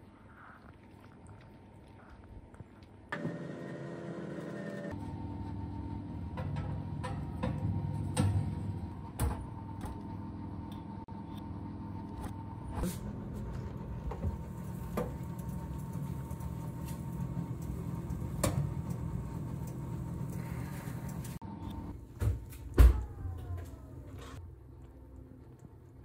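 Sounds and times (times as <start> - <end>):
oven humming: 3.2 - 25.8.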